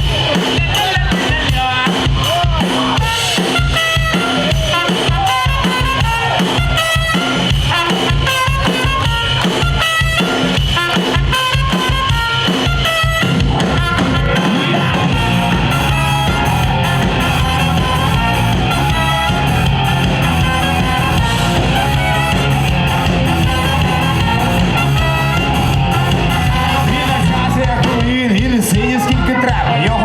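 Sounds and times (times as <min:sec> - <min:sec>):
bass guitar: 0:00.0 - 0:30.0
drum kit beat: 0:00.0 - 0:30.0
electric guitar: 0:00.0 - 0:30.0
live rock band playing: 0:00.0 - 0:30.0.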